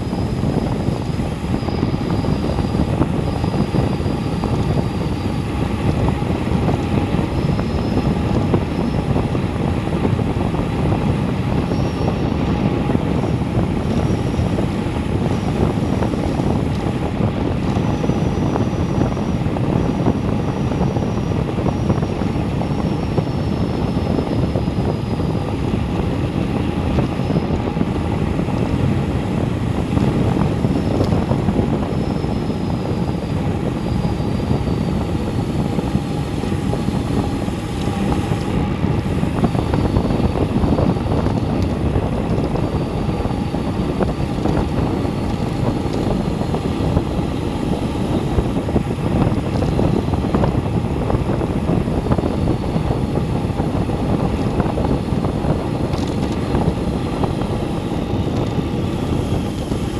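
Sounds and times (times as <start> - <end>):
wind rumbling over microphone: 0.0 - 59.9.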